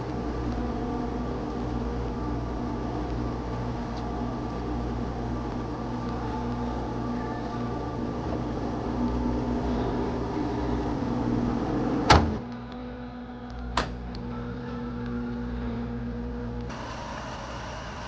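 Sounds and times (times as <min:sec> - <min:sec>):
machine hum with held tones: 0:00.0 - 0:18.0.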